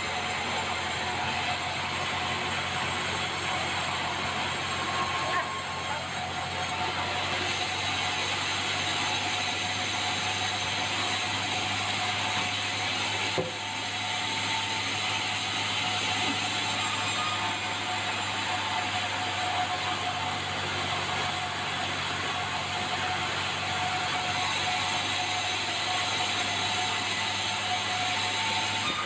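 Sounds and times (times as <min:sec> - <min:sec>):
sawmill machinery running: 0:00.0 - 0:29.0.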